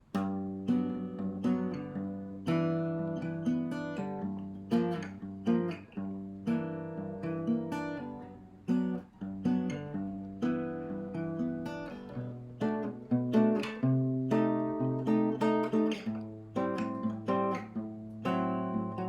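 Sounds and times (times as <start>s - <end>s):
guitar chords strummed: 0.0s - 19.0s.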